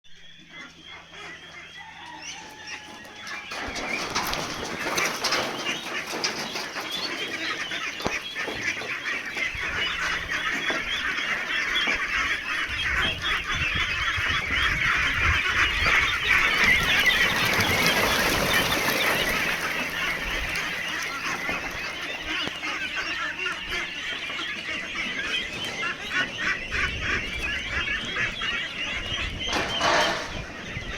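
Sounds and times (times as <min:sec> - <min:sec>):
chickens clucking and peeping: 0:00.2 - 0:30.9.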